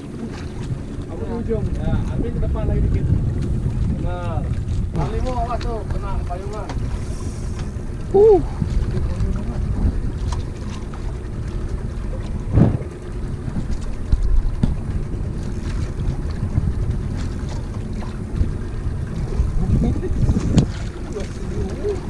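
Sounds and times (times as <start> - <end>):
water lapping around boat: 0.0 - 22.0
wind buffeting microphone: 0.0 - 22.0.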